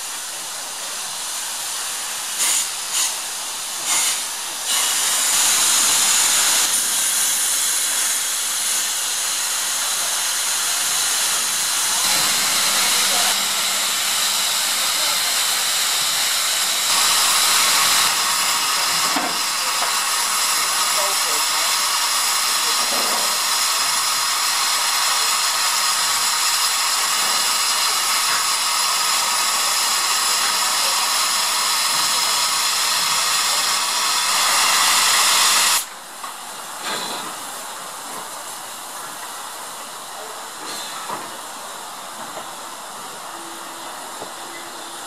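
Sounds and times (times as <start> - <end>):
steam locomotive hissing steam: 0.0 - 45.0.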